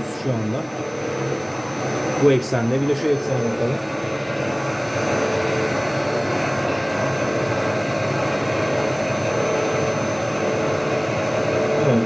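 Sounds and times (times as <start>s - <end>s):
faint high whine: 0.0s - 12.0s
machining center whirring: 0.0s - 12.0s.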